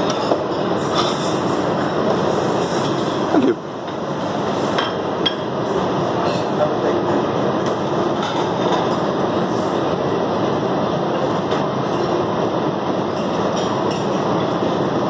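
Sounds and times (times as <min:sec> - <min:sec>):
conveyor belt mechanical rumble: 0:00.0 - 0:15.0.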